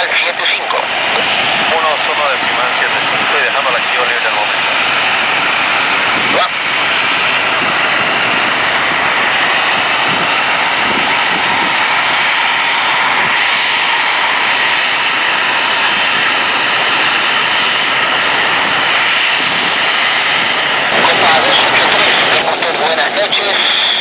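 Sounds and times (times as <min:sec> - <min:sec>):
high continuous engine whine: 0:00.0 - 0:24.0
jet engines running: 0:00.0 - 0:24.0.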